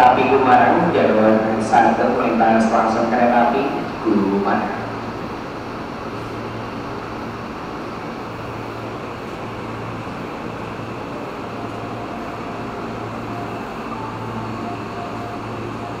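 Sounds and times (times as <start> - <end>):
low hum: 0.0 - 16.0
train running noise: 0.0 - 16.0.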